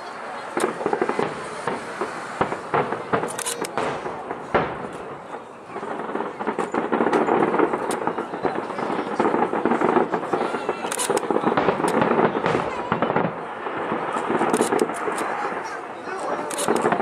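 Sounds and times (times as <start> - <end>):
fireworks crackling: 0.0 - 17.0
fireworks bursting with pops: 0.1 - 17.0.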